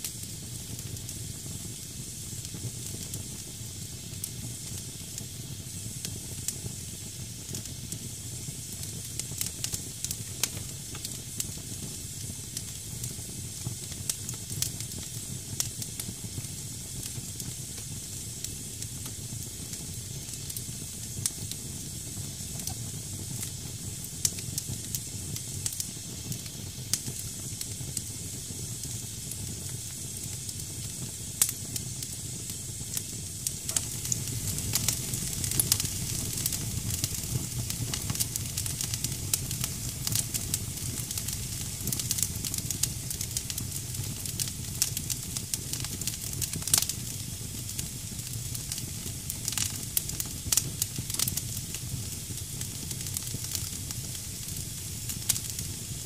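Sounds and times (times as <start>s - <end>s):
firewood hissing and crackling: 0.0s - 56.0s
low fire rumble: 0.0s - 56.0s.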